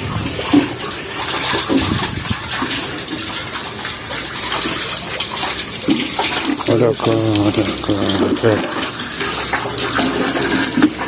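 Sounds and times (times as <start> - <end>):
water gushing and splashing: 0.0 - 11.0.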